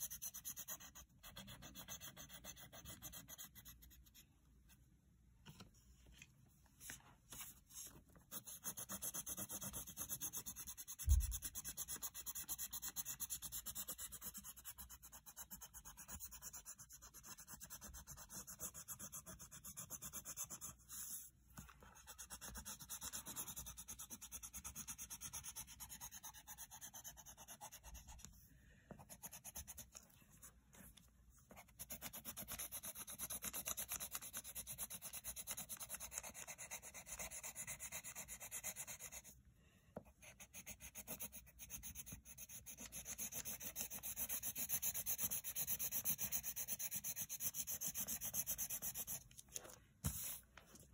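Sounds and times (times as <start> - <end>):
pencil shading on paper: 0.0 - 4.2, 7.4 - 28.3, 28.9 - 39.3, 40.0 - 50.4.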